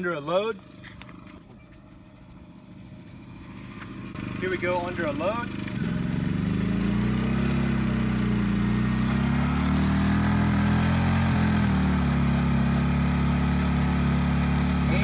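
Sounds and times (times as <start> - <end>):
generator engine speeding up: 1.2 - 15.0.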